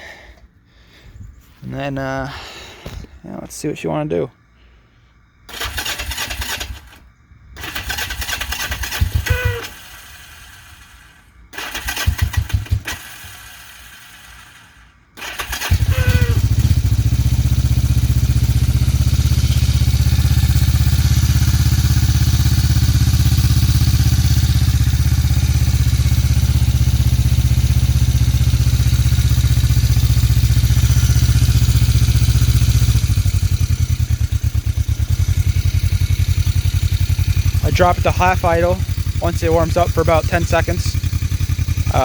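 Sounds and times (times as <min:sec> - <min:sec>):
motorcycle engine starting and idling: 0:05.5 - 0:42.0.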